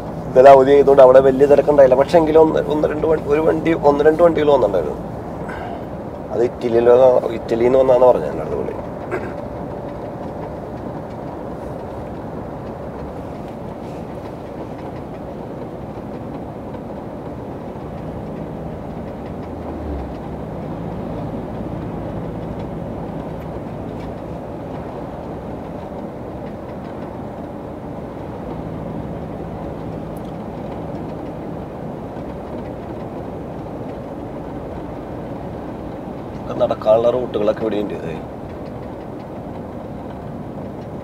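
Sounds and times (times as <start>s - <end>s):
road noise: 0.0s - 41.0s
truck engine drone: 0.0s - 41.0s.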